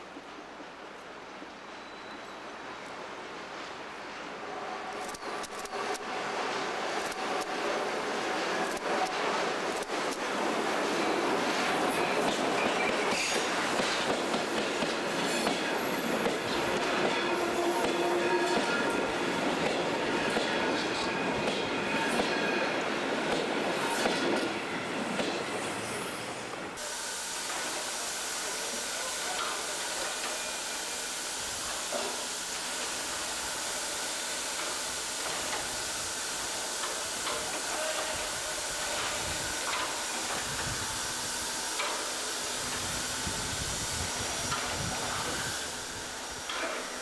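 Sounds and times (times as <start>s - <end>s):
train rolling along track: 0.0s - 47.0s
steam hissing: 3.9s - 24.5s, 25.2s - 47.0s.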